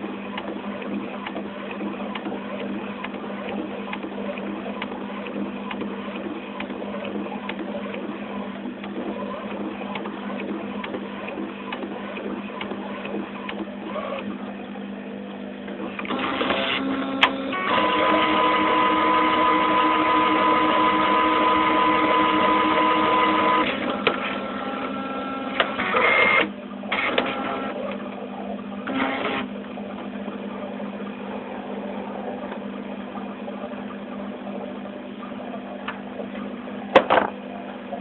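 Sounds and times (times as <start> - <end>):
printer feed whirs and clicks: 0.0 - 38.0
printer motor whine: 0.0 - 38.0.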